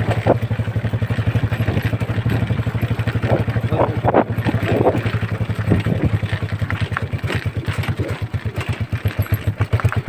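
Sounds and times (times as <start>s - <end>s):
small engine thudding: 0.0s - 10.0s.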